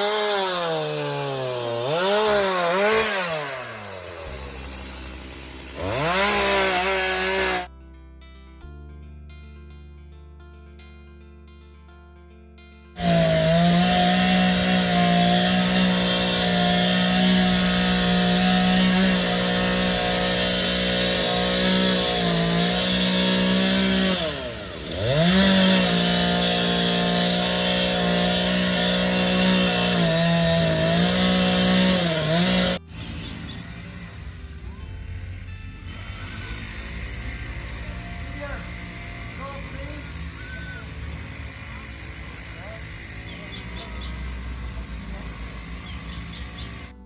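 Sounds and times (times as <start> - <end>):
chainsaw cutting wood: 0.0 - 7.7, 13.0 - 47.0.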